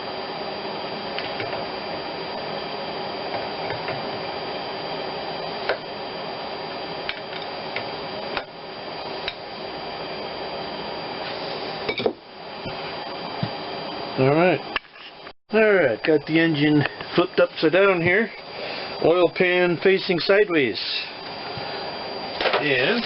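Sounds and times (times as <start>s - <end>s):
steady shop hum: 0.0s - 23.0s.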